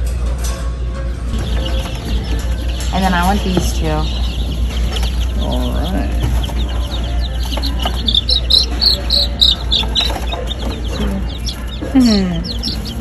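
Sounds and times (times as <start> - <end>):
baby chicks peeping: 1.3 - 13.0.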